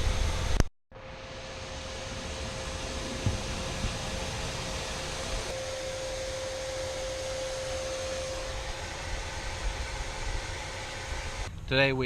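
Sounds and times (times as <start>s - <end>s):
shop vac blowing air: 0.0s - 11.5s.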